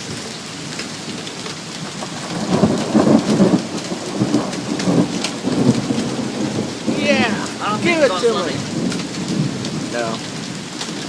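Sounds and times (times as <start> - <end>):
heavy rain and sleet: 0.0 - 11.0
thunder rumbling: 1.8 - 11.0.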